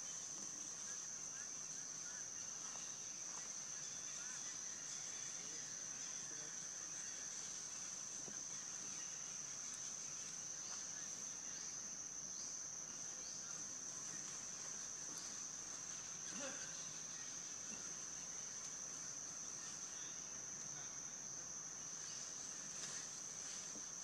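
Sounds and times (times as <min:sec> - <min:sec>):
high-pitched insect chorus drone: 0:00.0 - 0:24.0.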